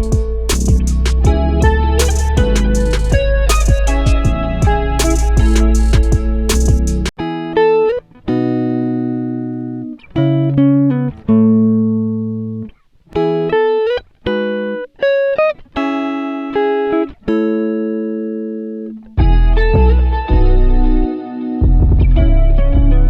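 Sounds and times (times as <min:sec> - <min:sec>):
plucked guitar-like chords: 0:00.0 - 0:23.0.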